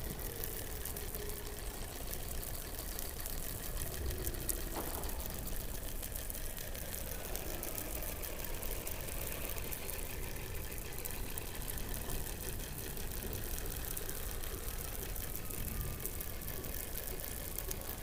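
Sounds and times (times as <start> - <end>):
dense crackle of fine clicks: 0.0 - 18.0.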